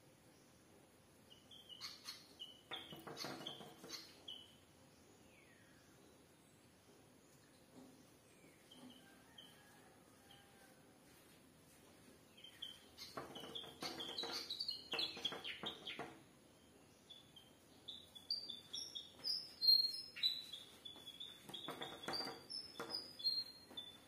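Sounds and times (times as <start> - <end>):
small birds chirping: 0.0 - 10.8, 11.7 - 24.0.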